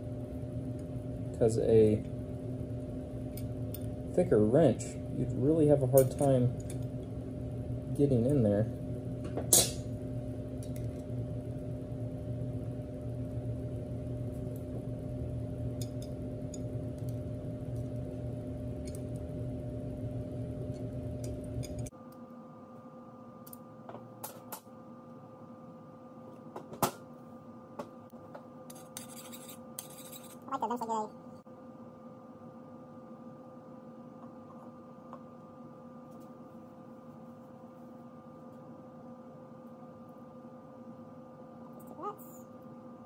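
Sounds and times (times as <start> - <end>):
steady background hum: 0.0 - 43.0.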